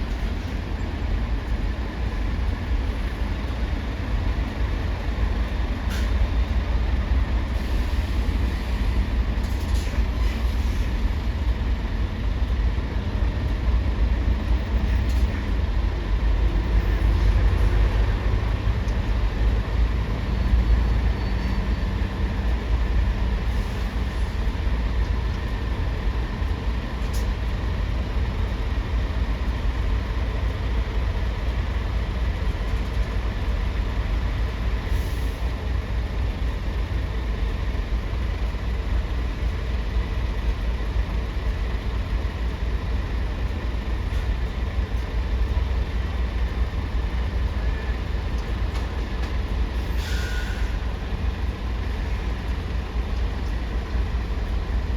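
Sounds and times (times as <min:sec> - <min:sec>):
heavy engines rumbling: 0:00.0 - 0:54.9.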